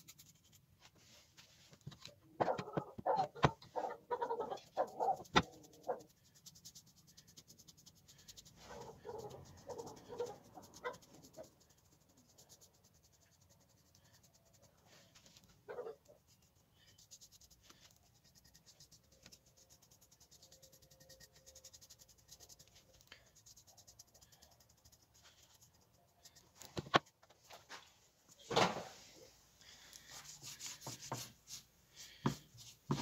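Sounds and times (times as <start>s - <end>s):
faint scratching or rubbing: 0.0s - 33.0s.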